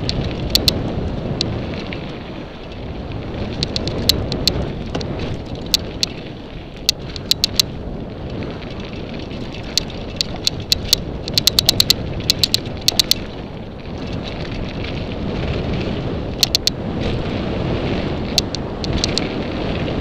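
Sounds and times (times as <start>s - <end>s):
bike clicks and rattles: 0.0s - 20.0s
bike riding rumble: 0.0s - 20.0s.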